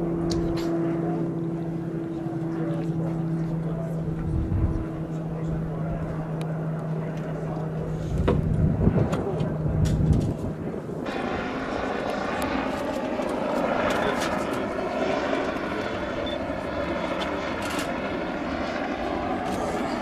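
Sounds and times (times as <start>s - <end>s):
helicopter flying by: 0.0s - 20.0s
propeller plane drone: 0.0s - 20.0s.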